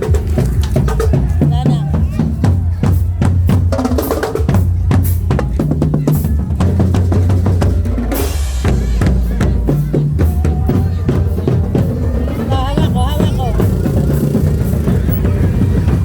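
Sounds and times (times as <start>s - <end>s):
drum-heavy music: 0.0s - 16.0s.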